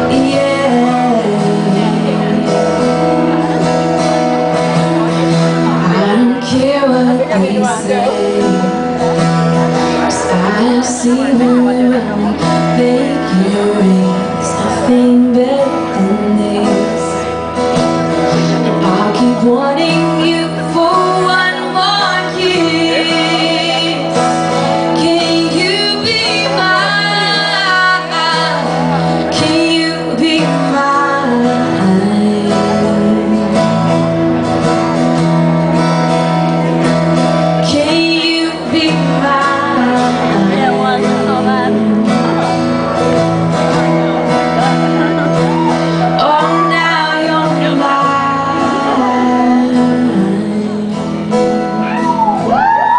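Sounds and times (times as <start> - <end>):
band playing pop music: 0.0 - 52.9.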